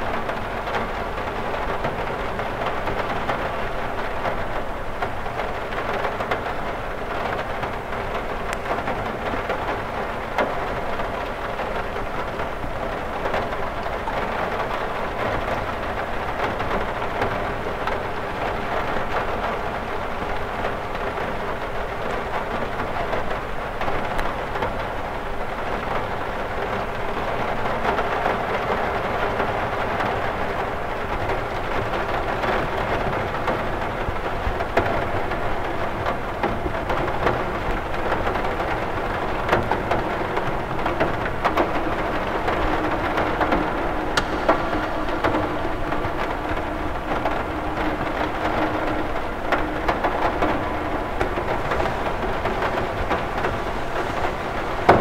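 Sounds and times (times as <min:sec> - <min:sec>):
rain hissing: 0:00.1 - 0:55.0
raindrops ticking on glass: 0:00.1 - 0:55.0.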